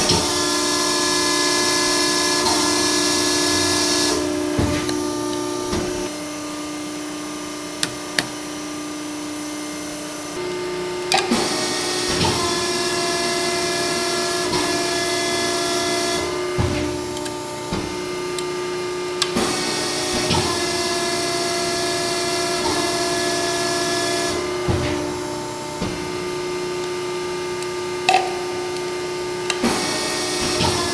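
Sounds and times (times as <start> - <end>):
machine clunks: 0.0 - 6.1, 11.1 - 30.9
hydraulic pump humming and whining: 0.0 - 30.9.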